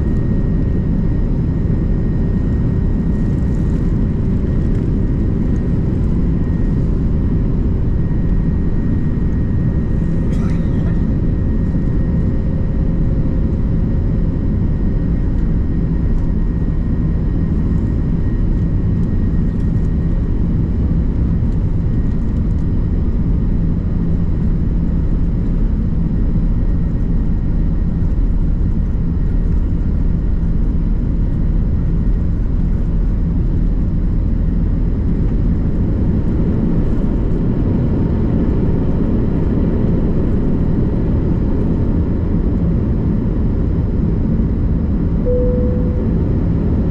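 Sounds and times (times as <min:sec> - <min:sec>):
jet airliner engines droning: 0:00.0 - 0:46.9.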